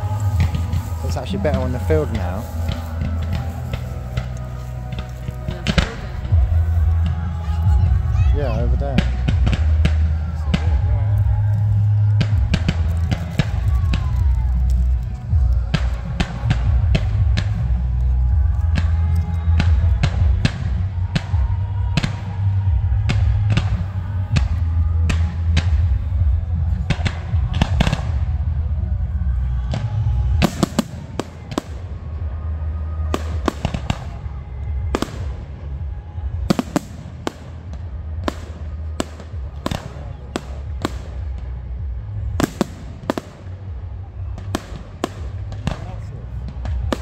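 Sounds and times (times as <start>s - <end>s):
fireworks bangs and crackles: 0.0s - 47.0s
loud bass-heavy music: 0.0s - 47.0s.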